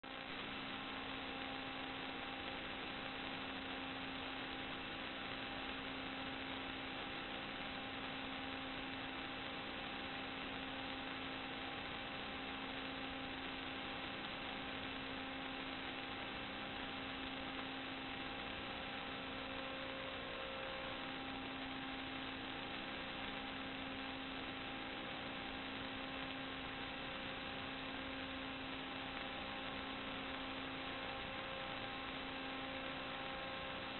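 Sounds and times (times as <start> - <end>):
electrical hum with tones: 0.0 - 33.9.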